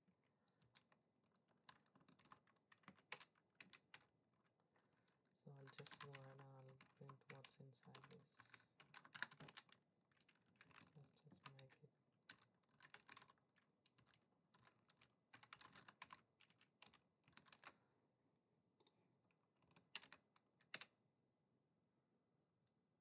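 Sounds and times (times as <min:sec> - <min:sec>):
faint keyboard typing: 0:00.0 - 0:21.0.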